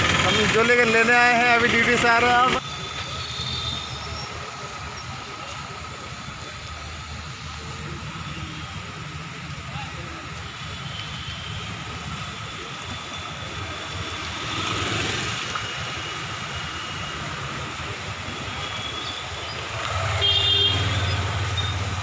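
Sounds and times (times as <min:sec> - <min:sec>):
low rumble of vehicles: 0:00.0 - 0:22.0.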